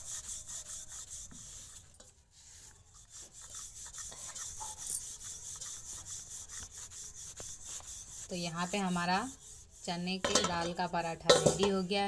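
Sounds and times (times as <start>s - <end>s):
rolling pin rolling dough: 0.0s - 12.0s.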